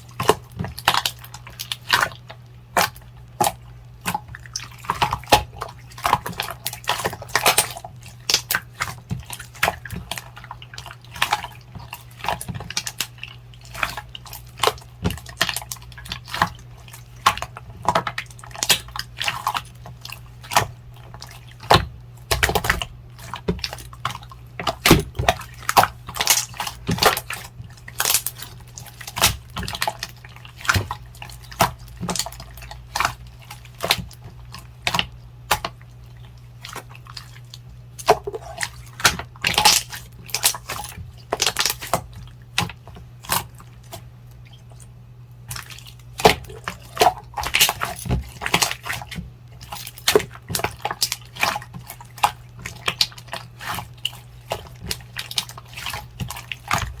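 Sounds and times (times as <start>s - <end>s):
slime squished by hand: 0.0s - 44.9s, 45.5s - 57.0s.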